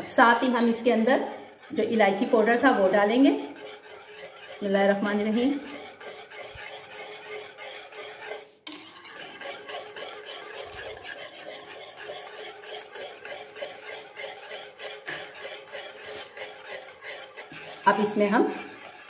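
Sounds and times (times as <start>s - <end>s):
whisk scraping a steel pan: 0.0s - 19.0s.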